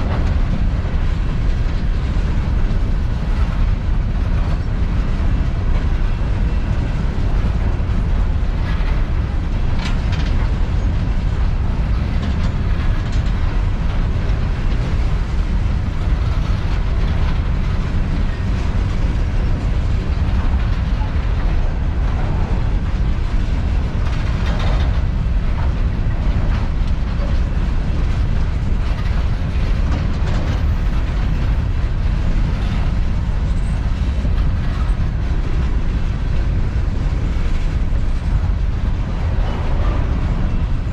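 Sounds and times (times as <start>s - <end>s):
train cars rumbling past: 0.0s - 40.9s.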